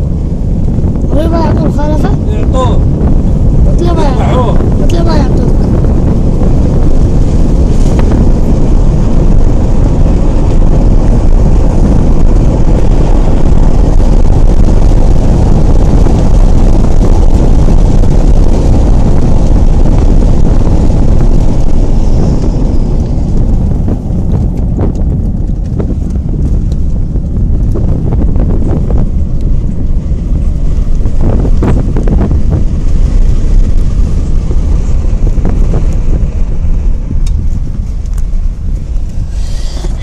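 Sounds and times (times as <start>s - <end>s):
wind and road noise in car: 0.0s - 40.0s
wind buffeting microphone: 0.0s - 40.0s.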